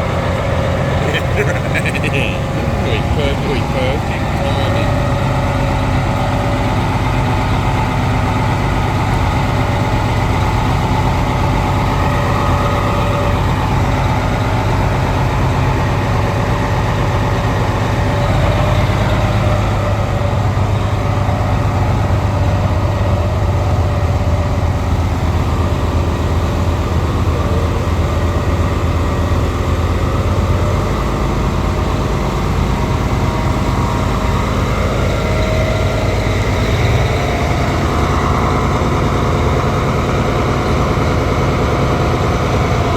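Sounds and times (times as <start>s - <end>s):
heavy truck engine rumbling: 0.0s - 42.9s.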